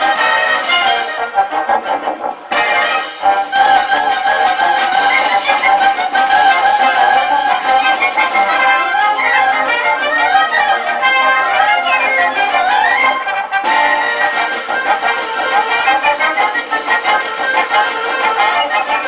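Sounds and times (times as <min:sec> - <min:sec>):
live band with brass melody: 0:00.0 - 0:19.0.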